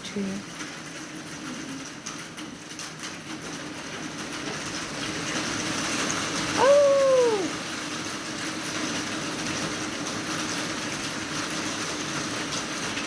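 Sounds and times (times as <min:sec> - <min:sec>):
heavy rain on windows: 0:00.0 - 0:13.0.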